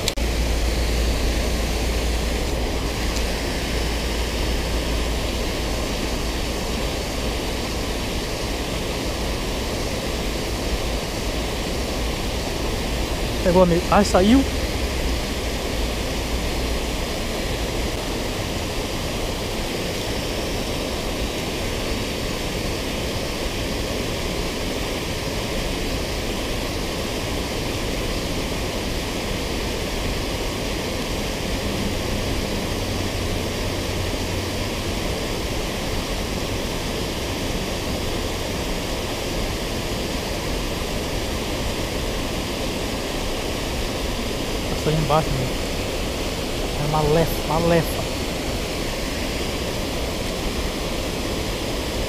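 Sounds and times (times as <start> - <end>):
water rushing over weir: 0.0 - 52.0.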